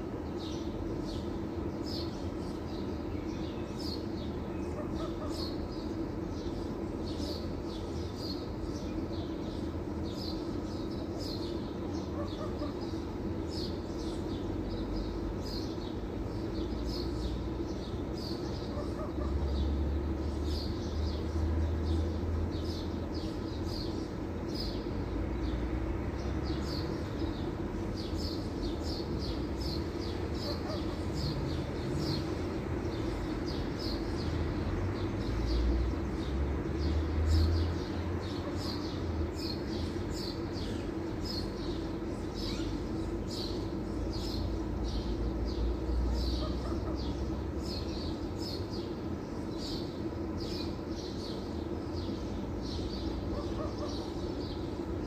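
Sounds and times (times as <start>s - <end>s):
bird chirping: 0.2s - 55.0s.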